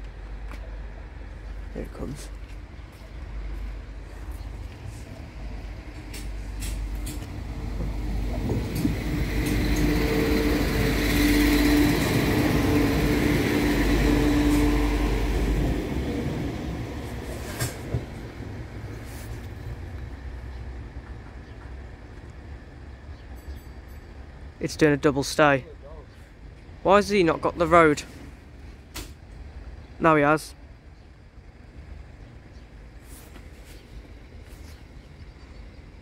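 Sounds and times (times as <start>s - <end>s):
diesel train passing: 0.0s - 36.0s.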